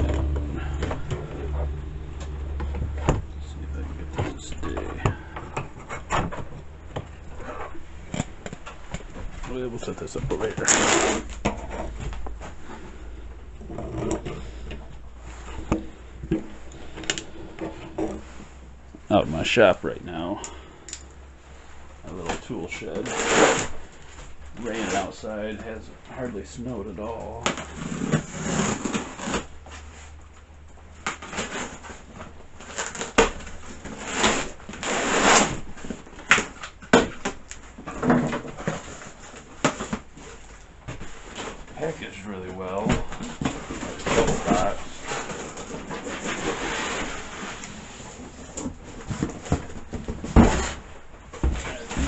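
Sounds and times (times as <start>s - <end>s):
cardboard box rustling and scraping: 0.0s - 18.6s, 22.2s - 25.8s, 26.6s - 30.2s, 30.9s - 52.0s
objects being moved and set down: 0.0s - 19.1s, 27.3s - 52.0s
low steady hum: 0.0s - 52.0s.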